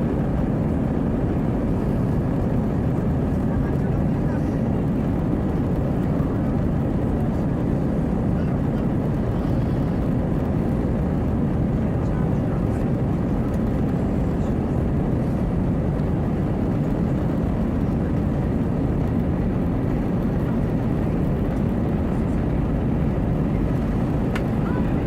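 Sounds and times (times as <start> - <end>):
airplane cabin roar: 0.0 - 25.0.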